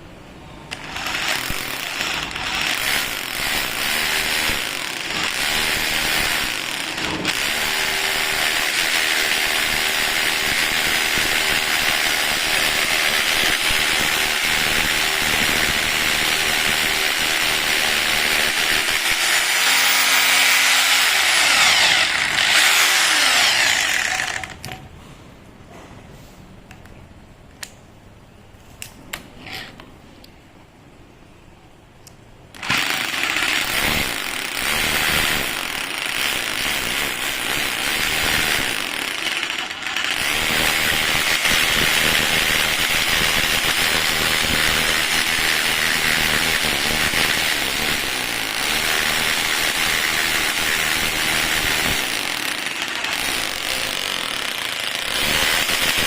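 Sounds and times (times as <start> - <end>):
rotary hammer drill running: 0.7 - 24.8, 32.6 - 56.0.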